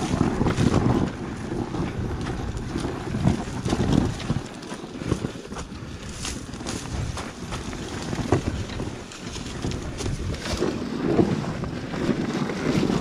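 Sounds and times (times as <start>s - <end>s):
dirt bike engine running: 0.0s - 13.0s
wind rumbling on microphone: 0.0s - 13.0s.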